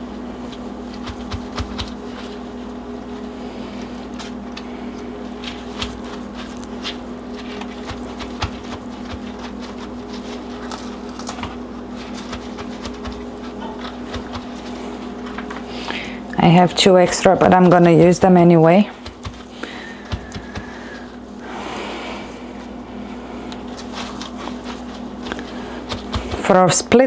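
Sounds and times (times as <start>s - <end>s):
low hum: 0.0s - 27.0s
rustling of lettuce and paper towel: 0.0s - 27.0s.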